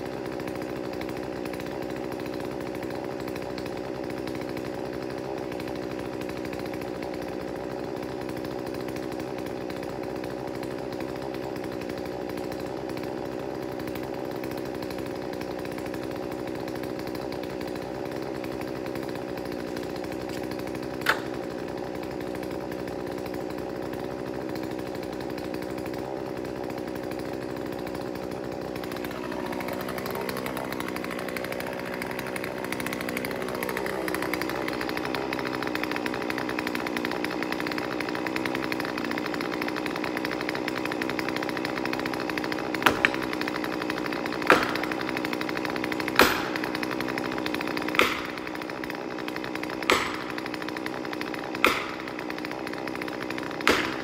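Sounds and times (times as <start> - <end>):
chainsaw idling: 0.0 - 54.0.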